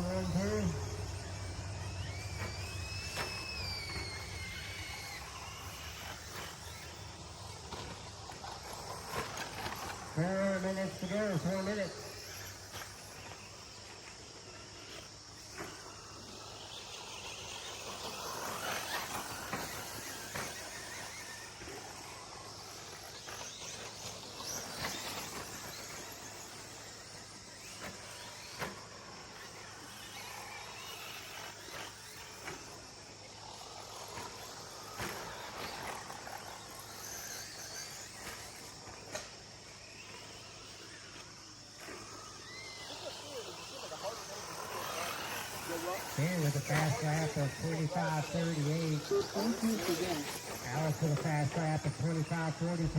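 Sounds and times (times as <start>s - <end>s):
crickets chirring: 0.0s - 52.9s
rc truck motors whining: 0.0s - 52.9s.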